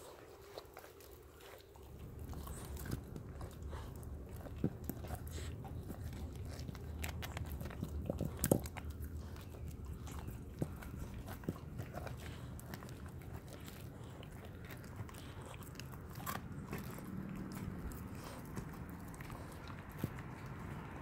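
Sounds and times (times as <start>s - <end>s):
puppy chewing crunchy bones: 0.0s - 21.0s.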